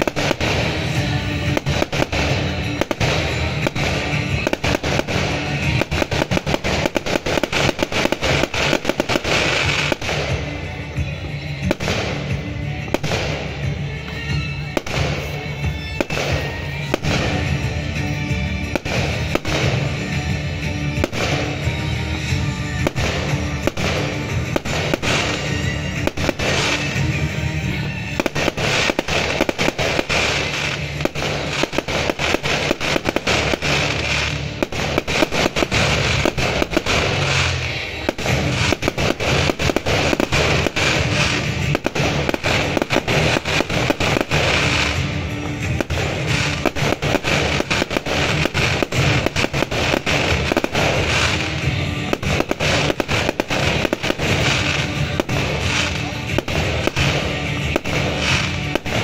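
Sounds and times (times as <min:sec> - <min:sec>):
fireworks bursting: 0:00.0 - 0:59.0
music playing: 0:00.0 - 0:59.0.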